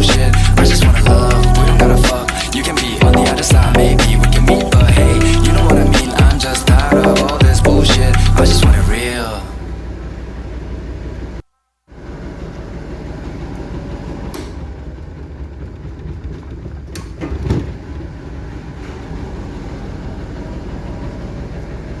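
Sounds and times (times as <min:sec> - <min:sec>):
washing machine rumbling: 0:00.0 - 0:22.0.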